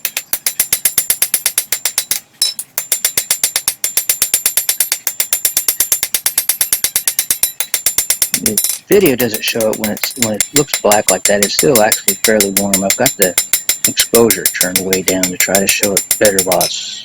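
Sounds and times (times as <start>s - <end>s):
hammer blows on hot steel: 0.0s - 16.9s.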